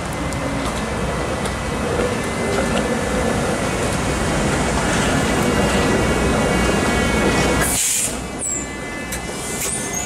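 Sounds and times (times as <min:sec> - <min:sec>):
streetcar passing on rails: 0:00.0 - 0:10.0.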